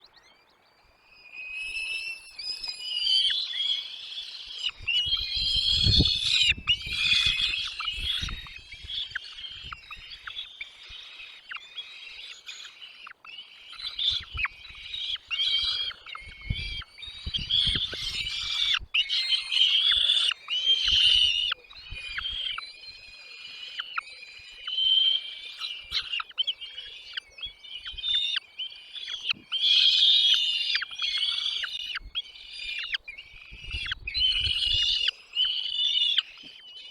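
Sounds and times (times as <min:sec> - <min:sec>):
chicks chirping: 0:02.6 - 0:36.7.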